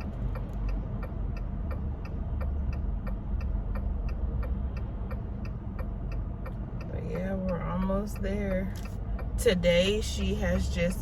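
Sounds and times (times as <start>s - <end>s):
engine and road rumble: 0.0s - 11.0s
turn signal clicking: 0.0s - 11.0s.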